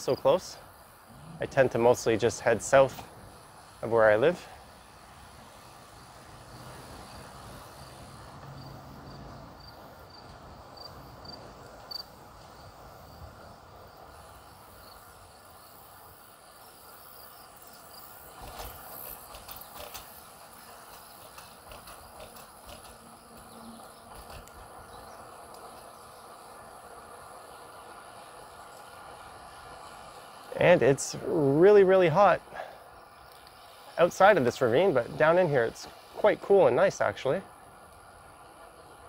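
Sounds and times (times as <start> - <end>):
insect chirping: 0.0 - 31.5, 32.5 - 39.0
bicycle tyres rolling on trail: 0.0 - 39.0.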